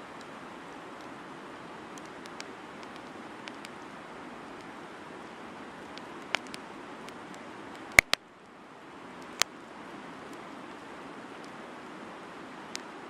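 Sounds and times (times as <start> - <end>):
campfire hiss: 0.0 - 13.0
campfire crackling pops: 0.1 - 8.2, 9.2 - 9.6, 10.2 - 11.9, 12.6 - 13.0.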